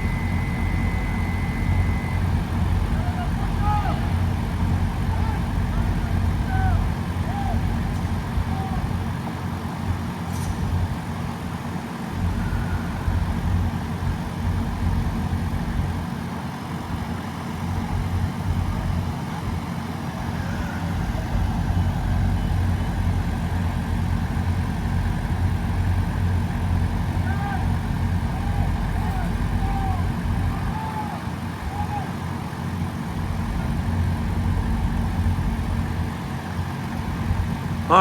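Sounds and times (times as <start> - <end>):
heavy engine rumbling: 0.0 - 38.0.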